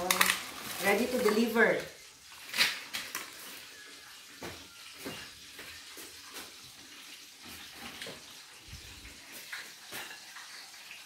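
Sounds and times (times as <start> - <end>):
deep-frying sizzling hiss: 0.0 - 11.0.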